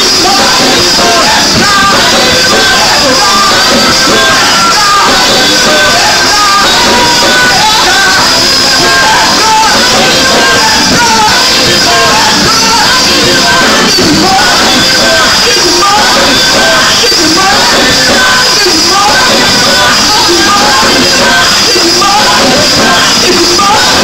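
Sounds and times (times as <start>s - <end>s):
backing singers: 0.0s - 24.0s
drums: 0.0s - 24.0s
keyboard: 0.0s - 24.0s
woman singing lead: 0.0s - 24.0s.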